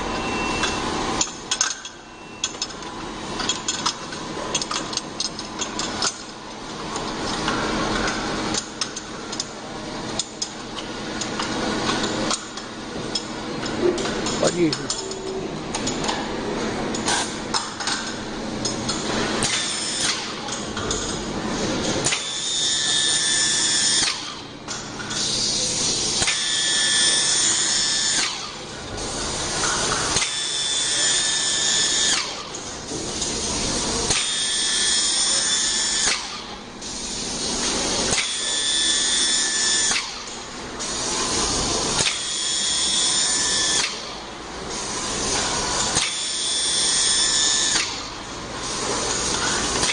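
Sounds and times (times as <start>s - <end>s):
machine mixing head whining: 5.5s - 49.9s.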